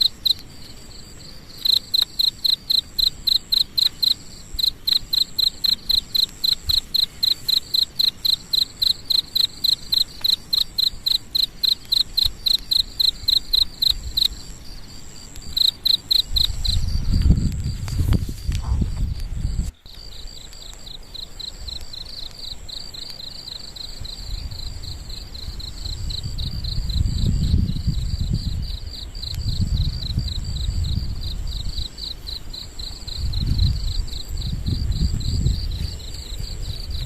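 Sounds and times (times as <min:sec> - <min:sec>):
insect chirping: 0:00.0 - 0:37.0.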